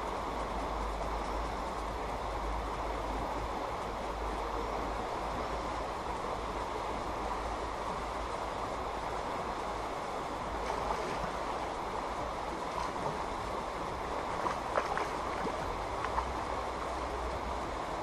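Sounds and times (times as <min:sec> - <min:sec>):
river water rushing over gravel: 0:00.0 - 0:18.0.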